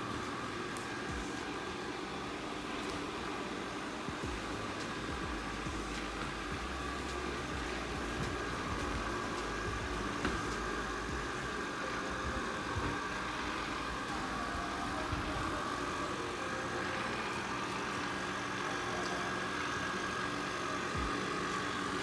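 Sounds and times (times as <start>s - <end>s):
robot vacuum whirring: 0.0s - 22.0s.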